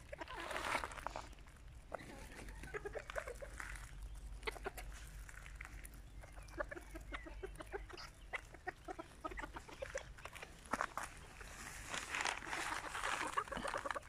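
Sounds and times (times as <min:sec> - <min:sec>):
chickens clucking softly: 0:00.0 - 0:14.0.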